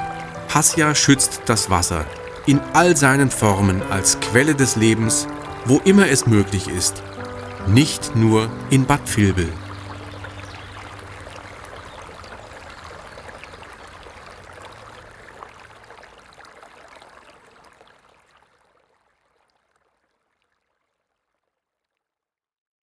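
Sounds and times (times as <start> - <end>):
river water flowing: 0.0 - 20.3.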